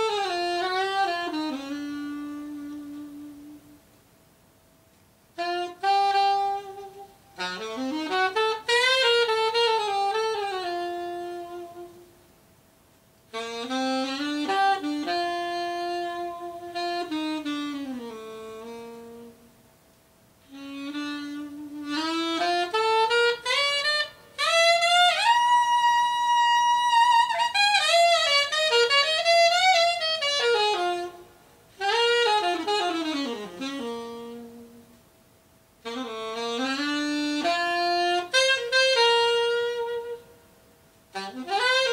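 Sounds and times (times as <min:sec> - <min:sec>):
saxophone solo: 0:00.0 - 0:03.9, 0:05.2 - 0:12.3, 0:13.2 - 0:41.9.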